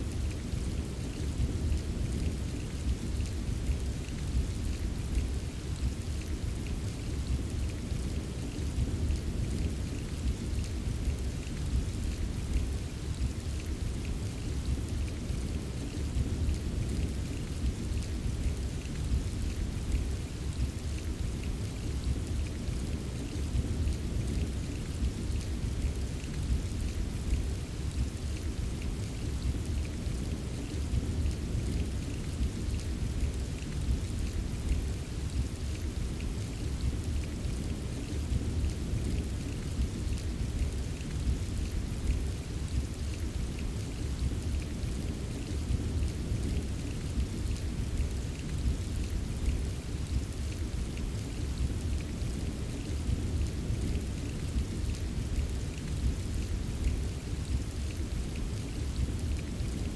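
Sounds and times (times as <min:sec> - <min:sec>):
steady rain: 0:00.0 - 0:59.9
raindrop ticks: 0:00.2 - 0:59.9.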